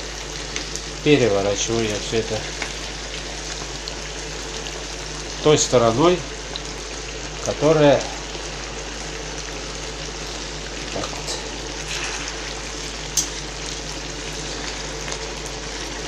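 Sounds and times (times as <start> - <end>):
sauce sizzling in a frying pan: 0.0 - 16.0.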